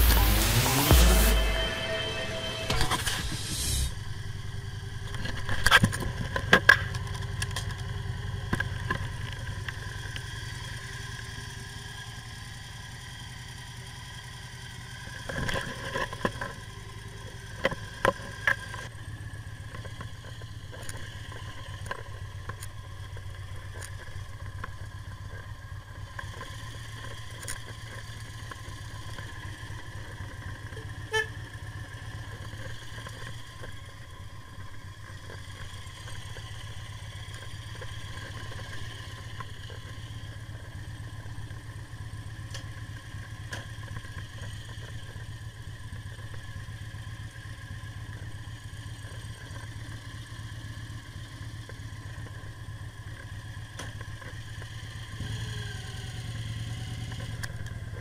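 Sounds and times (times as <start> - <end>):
motorcycle engine idling: 0.0 - 2.6, 3.7 - 58.0.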